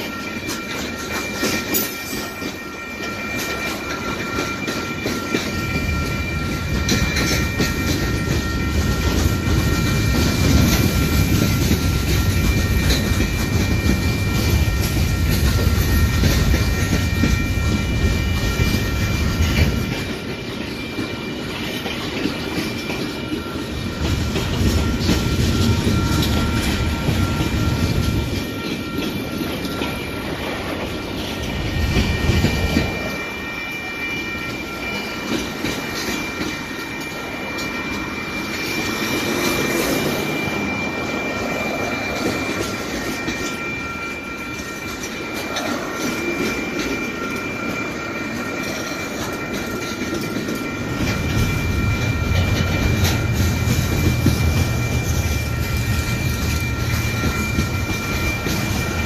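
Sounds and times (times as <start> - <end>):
steady high tones: 0.0 - 59.0
train wheels clacking on rails: 0.0 - 59.0.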